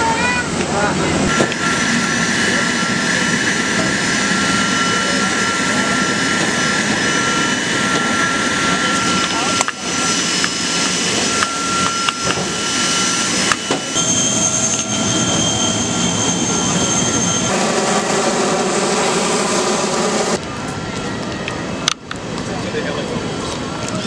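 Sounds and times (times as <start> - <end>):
mechanical rushing noise: 0.0 - 20.4
high whining tones: 0.4 - 21.8.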